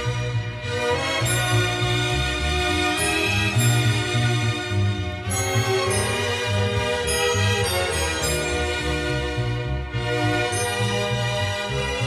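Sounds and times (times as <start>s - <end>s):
instrumental music with bass line: 0.0s - 12.0s.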